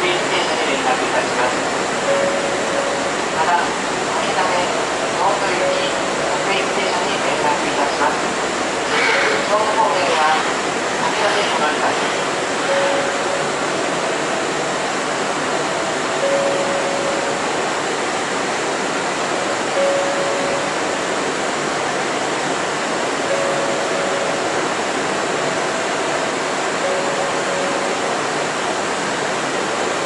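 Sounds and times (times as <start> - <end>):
subway train running noise: 0.0 - 30.0.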